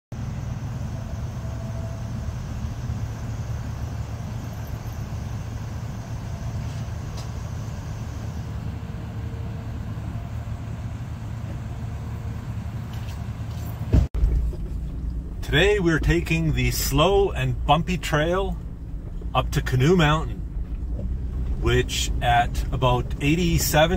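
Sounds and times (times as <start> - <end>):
motor vehicle rumble: 0.1 - 23.9.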